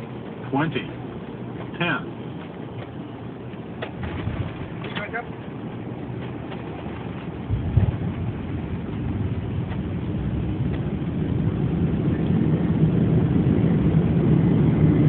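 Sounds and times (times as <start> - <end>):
aircraft landing jolt: 0.0 - 15.0
engine and runway rumble: 0.0 - 15.0.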